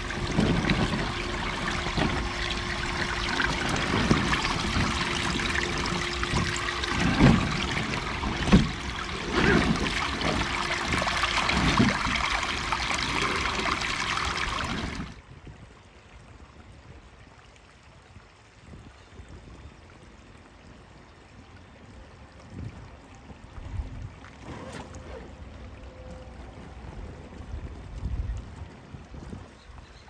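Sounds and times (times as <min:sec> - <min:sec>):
creek water splashing and trickling: 0:00.0 - 0:30.0.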